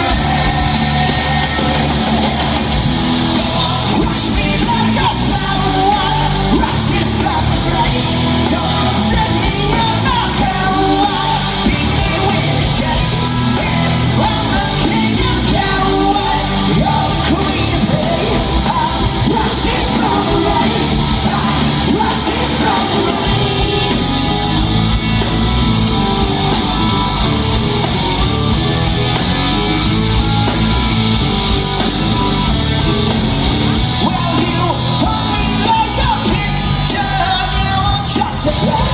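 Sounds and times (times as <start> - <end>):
loud rock music: 0.0 - 38.9
sung and yelled lead vocal: 0.0 - 38.9.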